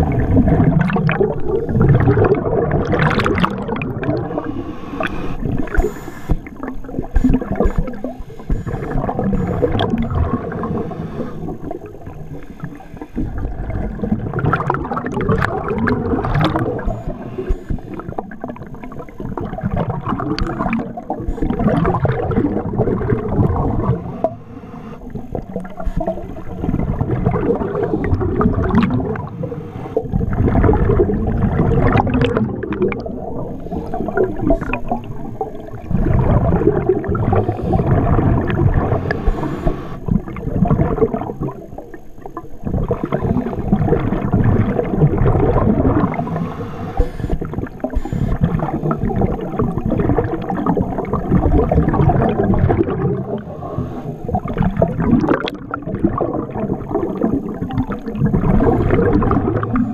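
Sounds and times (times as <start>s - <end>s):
scuba diver exhaling underwater: 0.0s - 41.9s, 42.6s - 59.9s.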